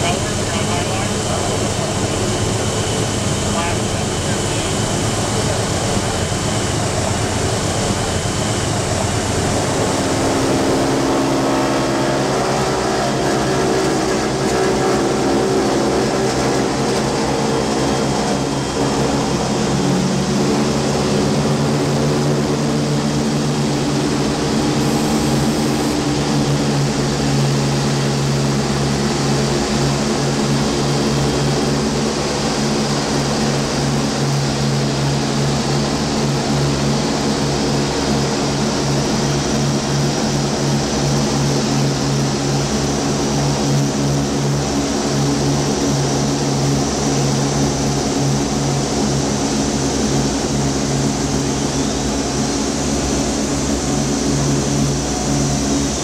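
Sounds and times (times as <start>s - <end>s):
propeller aircraft engines running: 0.0s - 56.0s.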